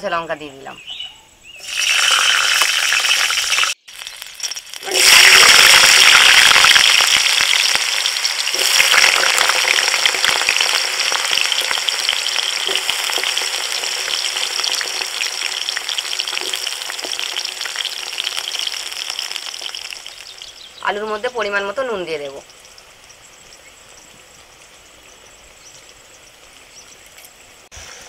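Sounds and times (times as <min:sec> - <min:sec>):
potatoes sizzling in hot oil: 0:01.6 - 0:25.7.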